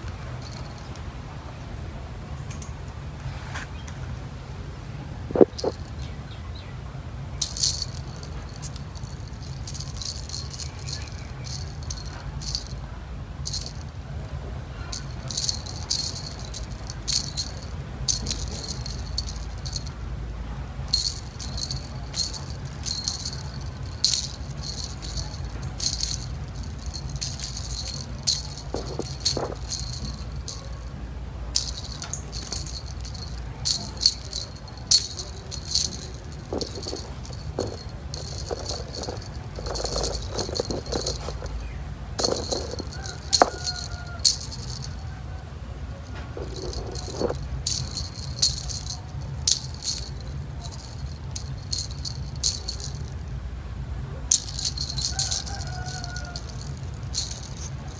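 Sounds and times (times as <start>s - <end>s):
steady low hum: 0.0s - 55.4s
small metal bells tinkling: 0.4s - 1.0s, 5.4s - 6.2s, 7.4s - 14.0s, 14.8s - 20.0s, 20.9s - 45.2s, 46.4s - 53.3s, 54.3s - 57.9s.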